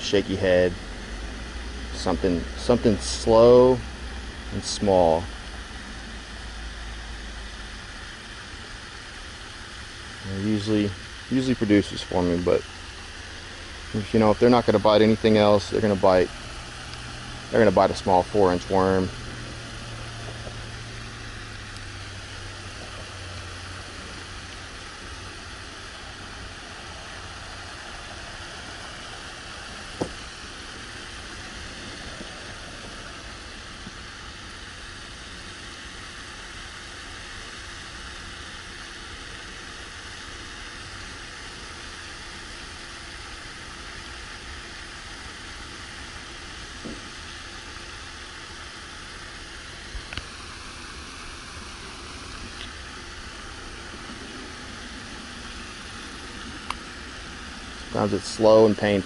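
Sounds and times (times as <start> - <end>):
outdoor hiss: 0.0 - 59.0.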